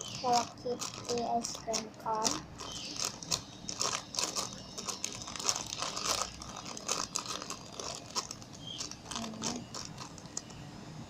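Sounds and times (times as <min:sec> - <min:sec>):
crinkly toy rustling: 0:00.0 - 0:10.6.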